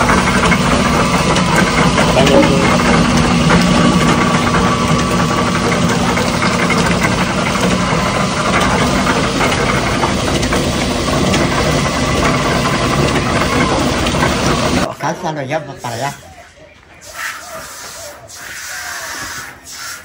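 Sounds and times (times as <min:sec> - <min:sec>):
sugarcane mill droning: 0:00.0 - 0:20.0.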